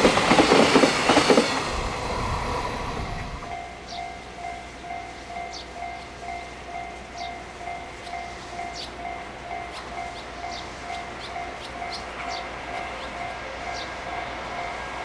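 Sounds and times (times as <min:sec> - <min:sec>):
railway warning bell ringing: 0:00.9 - 0:15.0.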